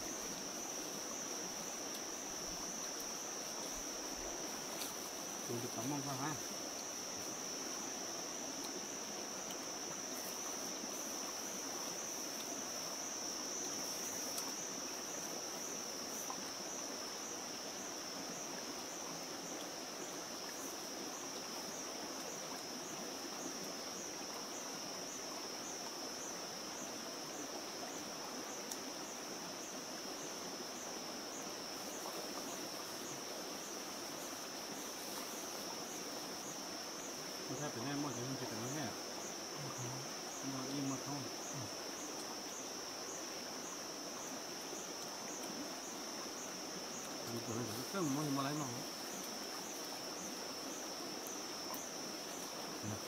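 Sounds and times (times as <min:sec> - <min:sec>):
high-pitched insect song: 0:00.0 - 0:53.0.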